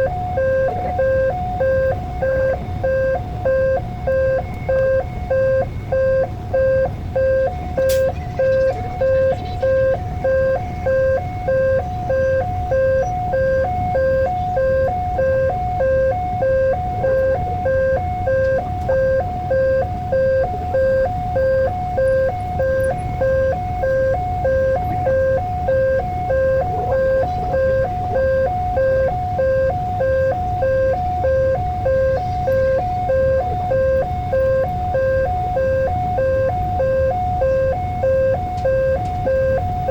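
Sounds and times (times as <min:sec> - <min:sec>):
level crossing two-note alarm: 0:00.0 - 0:39.9
steady low rumble: 0:00.0 - 0:39.9.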